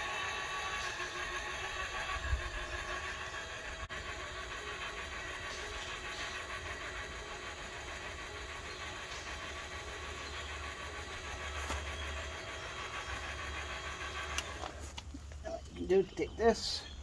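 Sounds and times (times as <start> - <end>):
electric jack motor humming: 0.0 - 17.0.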